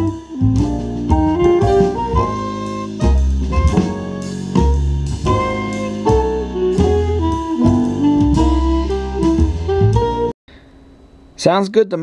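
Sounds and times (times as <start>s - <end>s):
instrumental music through loudspeakers: 0.0s - 10.3s.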